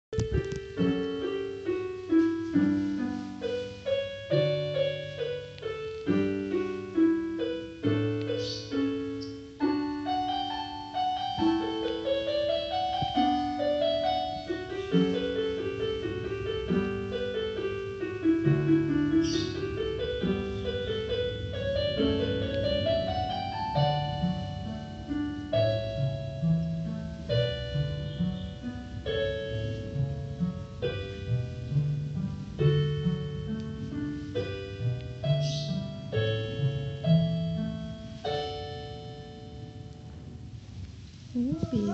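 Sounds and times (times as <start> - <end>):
piano music: 0.1 - 41.9.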